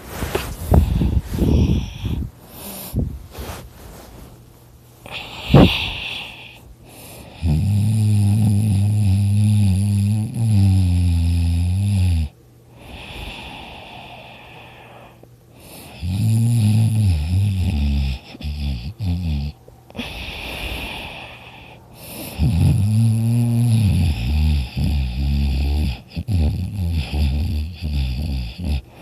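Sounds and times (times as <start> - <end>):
person snoring loudly: 0.7 - 2.8, 5.1 - 29.0.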